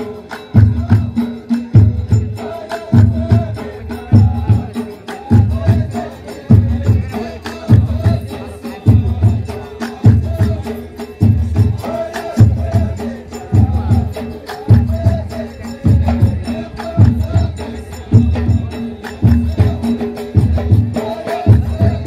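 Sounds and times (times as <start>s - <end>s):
frame drums beating: 0.0s - 22.0s
men chanting: 0.0s - 22.0s.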